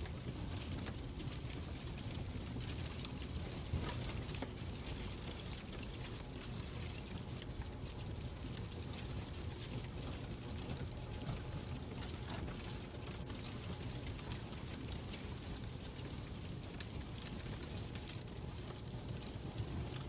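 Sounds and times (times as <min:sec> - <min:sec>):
fireplace crackling: 0:00.1 - 0:10.4, 0:11.0 - 0:20.0.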